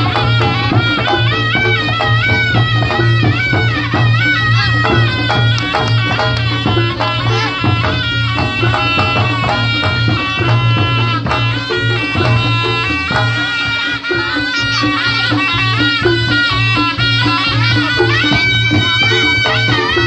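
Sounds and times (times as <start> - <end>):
hand drum strokes: 0.0 - 20.0
reedy shawm melody: 0.0 - 20.0.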